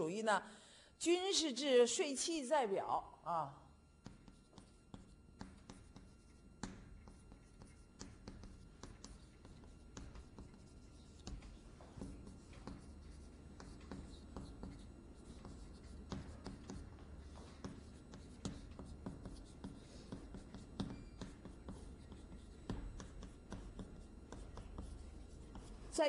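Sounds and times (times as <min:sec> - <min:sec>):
faint low hum: 0:00.0 - 0:26.0
chalk scratching on blackboard: 0:04.0 - 0:26.0.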